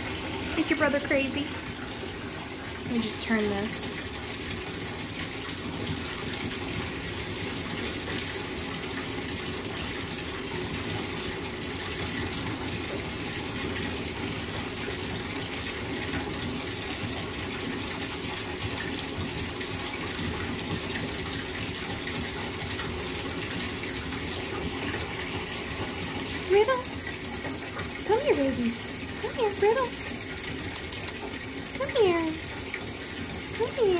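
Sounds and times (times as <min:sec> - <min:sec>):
water pouring into bathtub: 0:00.0 - 0:33.9.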